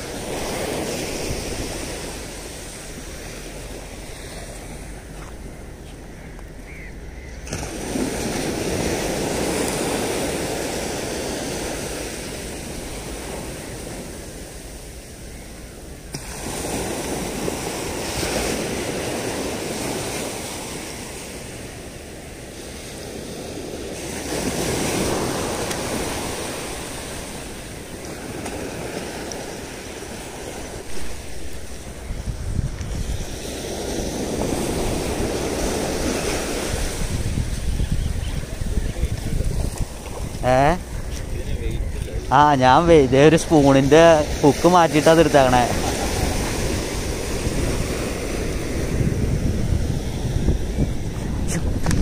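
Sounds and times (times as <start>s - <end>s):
surf breaking on beach: 0.0s - 52.0s.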